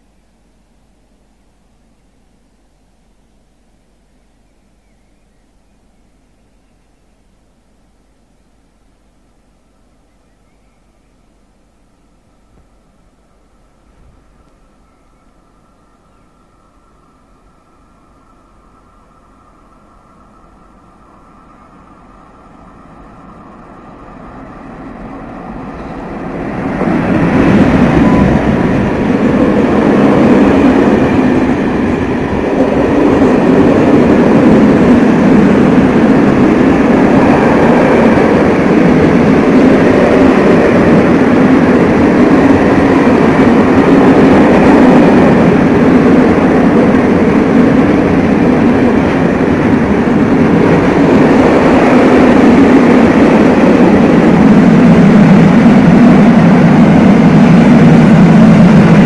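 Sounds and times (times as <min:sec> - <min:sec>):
train wheels rumbling on rail: 0:11.6 - 0:59.0.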